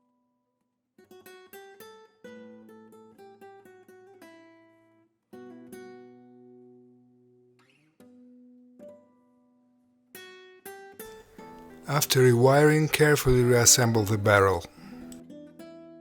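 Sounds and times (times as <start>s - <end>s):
faint acoustic guitar music: 1.0s - 16.0s.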